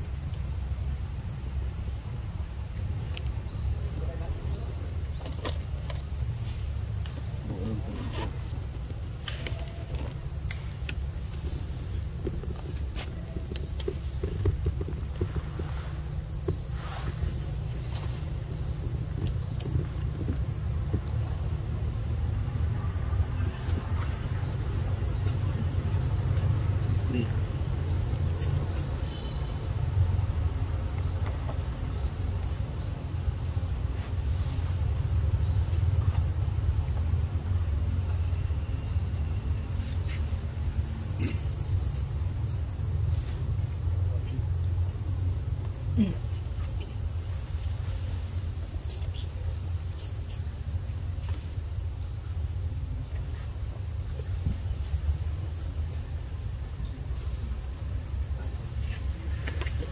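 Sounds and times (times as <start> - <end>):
insects buzzing: 0.0 - 59.9
short insect chirps: 0.0 - 59.9.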